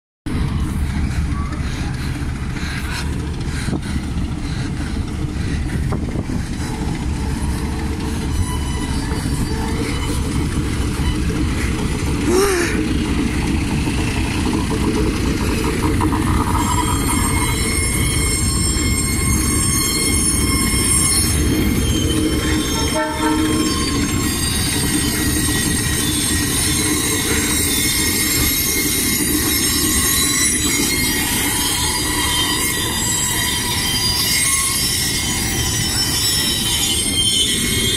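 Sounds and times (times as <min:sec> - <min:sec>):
diesel locomotives rumbling: 0:00.3 - 0:37.9
wheels squealing on rails: 0:00.3 - 0:37.9.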